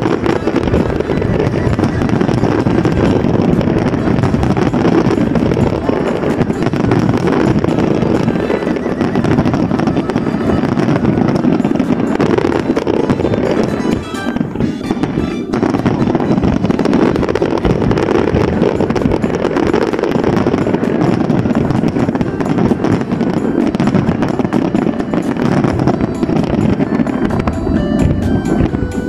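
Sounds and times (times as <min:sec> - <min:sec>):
fireworks bursting and crackling: 0:00.0 - 0:29.0
music: 0:00.0 - 0:29.0.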